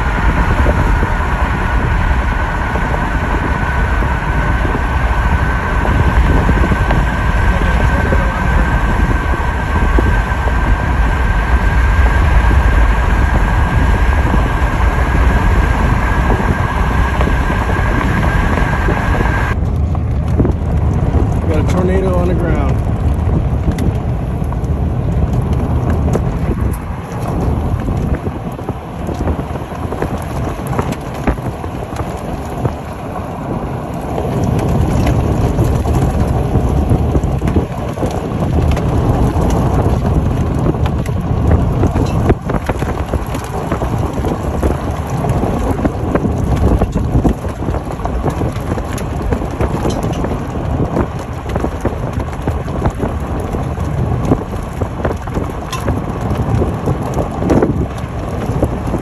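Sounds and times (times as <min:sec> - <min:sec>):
heavy low rumble: 0:00.0 - 0:59.0
wind and road noise in car: 0:00.0 - 0:59.0.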